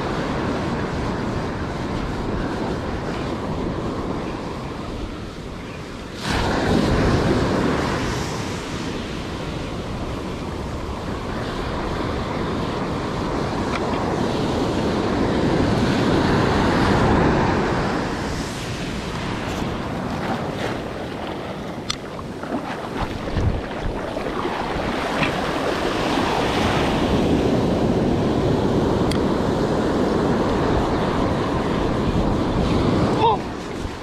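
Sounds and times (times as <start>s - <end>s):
ocean surf breaking: 0.0s - 34.0s
wind buffeting microphone: 0.0s - 34.0s.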